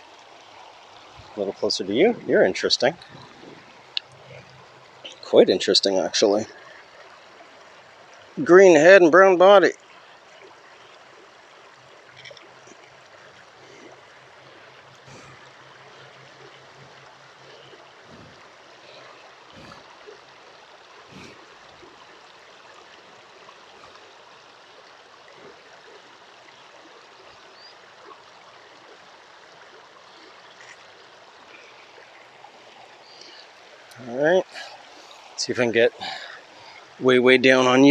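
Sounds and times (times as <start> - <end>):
creek water trickling: 0.0 - 37.9.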